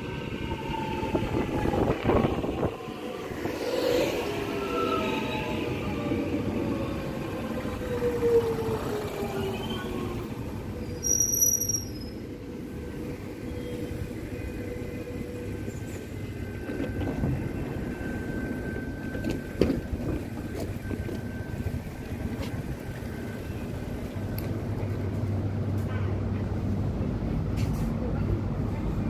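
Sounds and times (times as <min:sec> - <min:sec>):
train equipment humming: 0:00.0 - 0:29.0.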